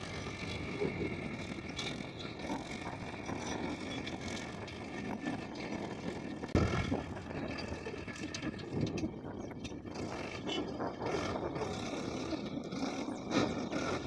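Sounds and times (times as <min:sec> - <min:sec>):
tractor engine drone: 0:00.0 - 0:14.0.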